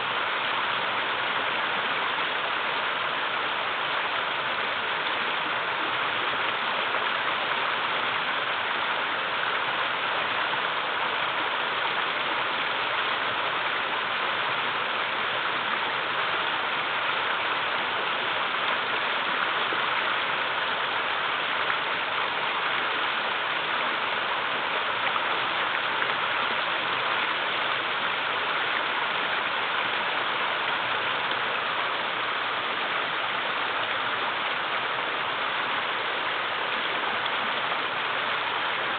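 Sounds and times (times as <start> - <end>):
river rushing over small waterfalls: 0.0 - 38.9.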